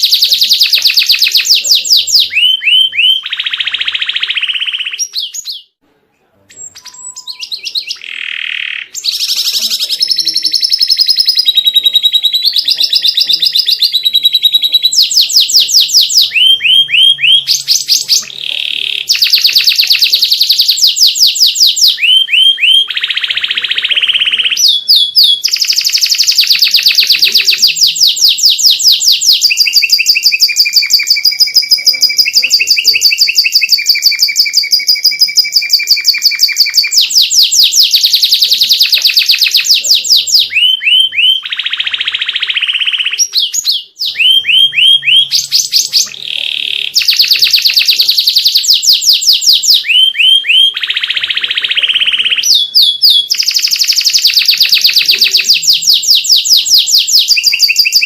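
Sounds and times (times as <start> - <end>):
canary singing trills: 0.0 - 5.8, 6.4 - 58.0.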